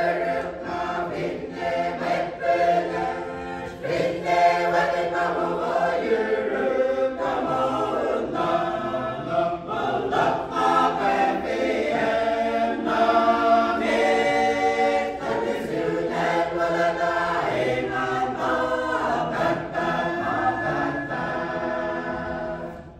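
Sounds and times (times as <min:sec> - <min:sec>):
choir singing a hymn: 0:00.0 - 0:22.9.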